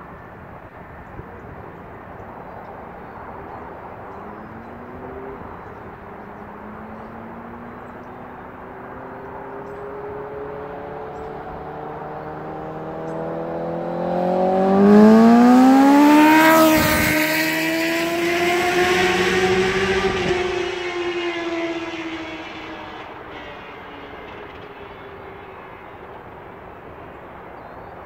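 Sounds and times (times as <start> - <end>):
motorcycle engine accelerating: 4.1 - 28.0.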